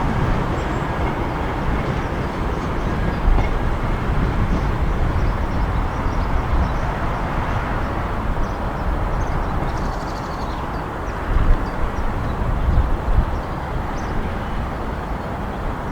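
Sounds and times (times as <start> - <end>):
diesel train rumbling: 0.0 - 15.9.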